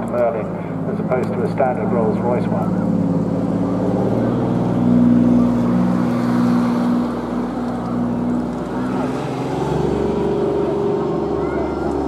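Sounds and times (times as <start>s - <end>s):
propeller aircraft engine overhead: 0.0s - 12.0s.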